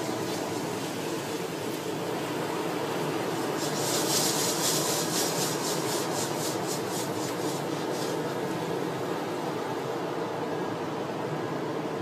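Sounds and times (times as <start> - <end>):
steady rushing noise: 0.0 - 11.2.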